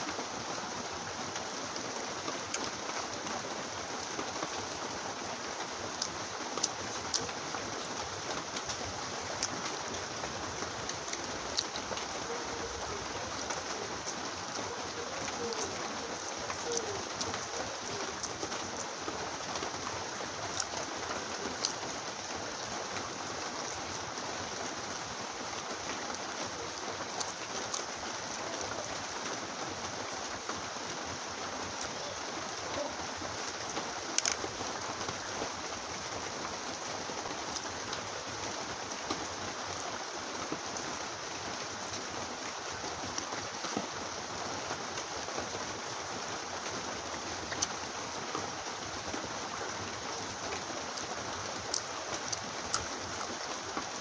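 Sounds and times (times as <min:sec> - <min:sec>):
heavy rain hissing: 0:00.0 - 0:54.0.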